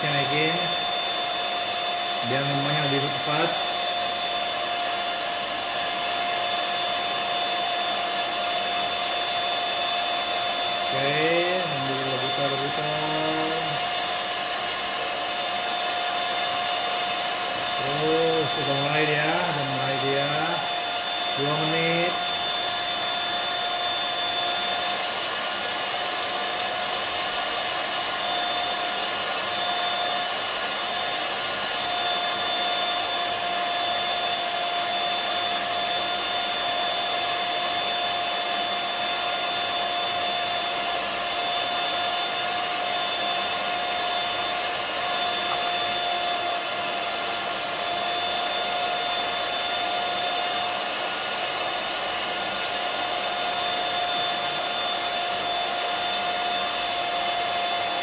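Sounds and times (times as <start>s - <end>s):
electric hand mixer whining: 0.0s - 58.0s.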